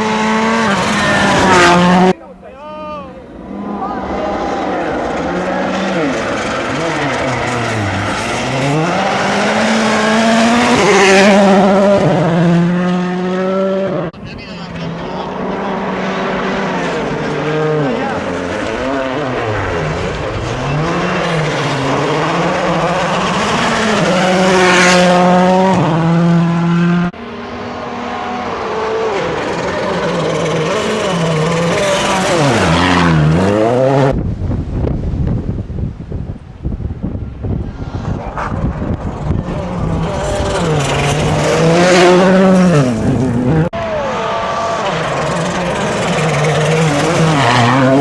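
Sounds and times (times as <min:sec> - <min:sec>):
rally car engine revving: 0:00.0 - 0:34.2, 0:36.9 - 0:48.0.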